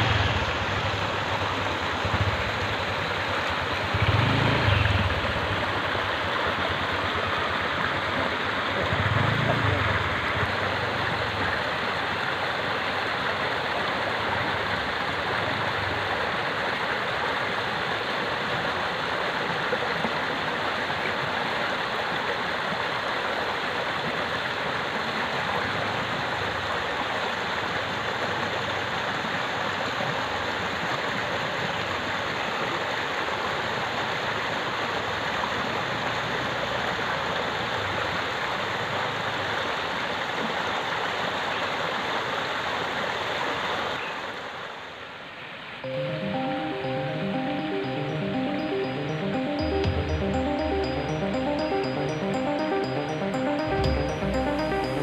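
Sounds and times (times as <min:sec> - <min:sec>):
stream rushing over rocks: 0:00.0 - 0:44.8.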